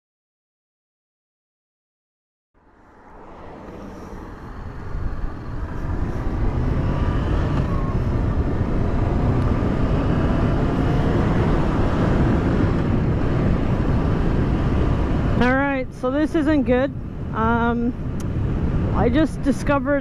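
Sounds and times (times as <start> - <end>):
motorcycle engine cruising: 2.6 - 20.0
wind rush and road noise: 2.6 - 20.0.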